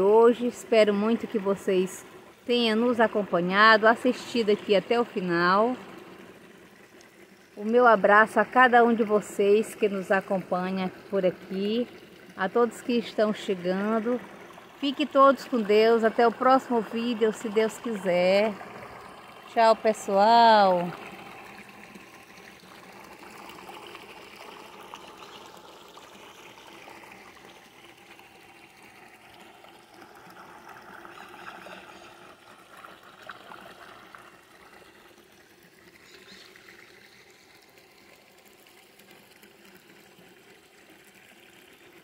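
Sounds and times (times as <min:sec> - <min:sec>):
aquarium water bubbling: 0:00.0 - 0:42.0.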